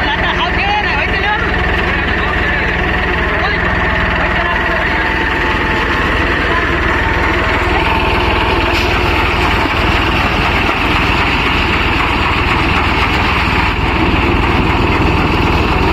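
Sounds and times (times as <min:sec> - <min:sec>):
tractor diesel engine running: 0:00.0 - 0:15.9
threshing machinery din: 0:01.4 - 0:15.9.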